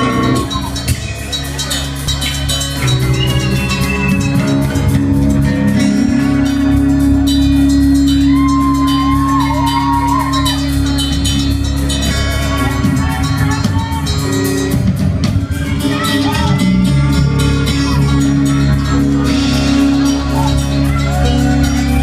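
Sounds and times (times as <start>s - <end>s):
bass guitar: 0.0s - 22.0s
drum kit: 0.0s - 22.0s
held melody line: 0.0s - 22.0s.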